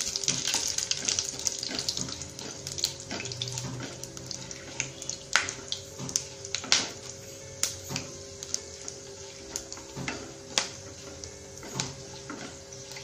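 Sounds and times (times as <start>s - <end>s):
wooden spatula stirring: 0.0s - 7.1s, 8.0s - 13.0s
spices sizzling in hot oil: 0.0s - 13.0s.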